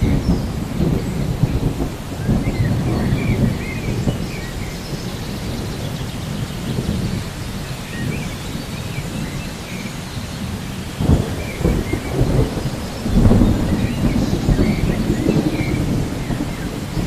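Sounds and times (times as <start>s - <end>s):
low rolling thunder: 0.0s - 17.0s
steady rain: 0.0s - 17.0s.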